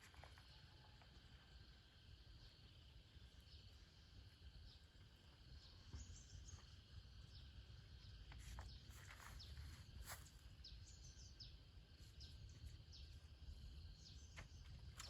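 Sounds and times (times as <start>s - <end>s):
insect hum: 0.0s - 15.0s.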